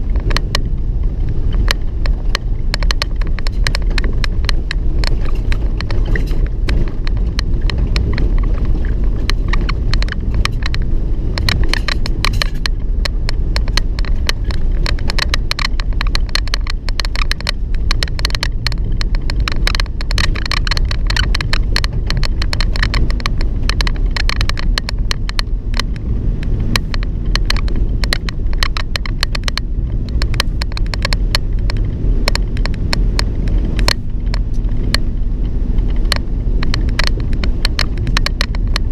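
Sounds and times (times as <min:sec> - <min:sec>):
vehicle road and engine noise: 0:00.0 - 0:38.9.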